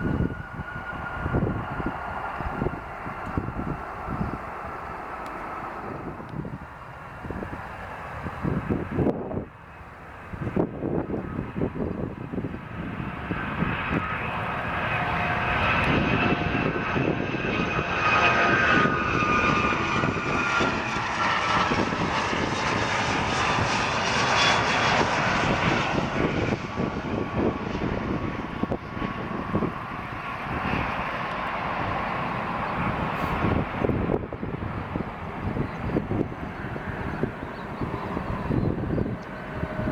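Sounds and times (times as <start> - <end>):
jet passing by: 0.0 - 39.9.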